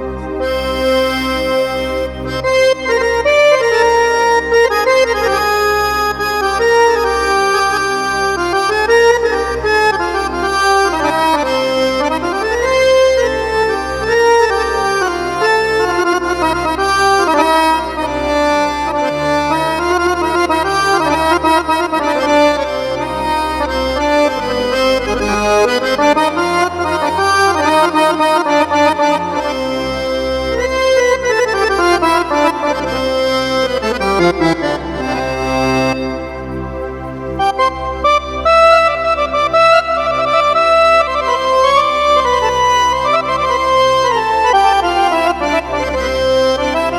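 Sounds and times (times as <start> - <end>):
accordion melody: 0.0 - 46.9
held bass chords: 0.0 - 46.9.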